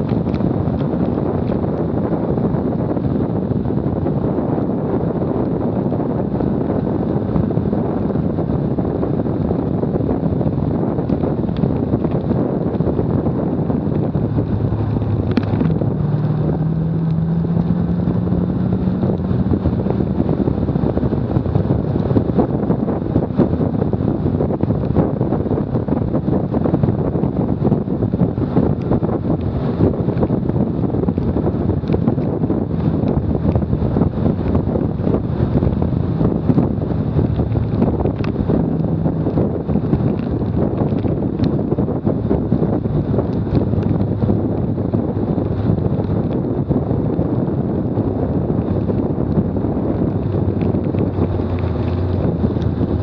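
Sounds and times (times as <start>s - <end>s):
car engine accelerating: 0.0s - 53.0s
wind buffeting microphone: 0.0s - 53.0s.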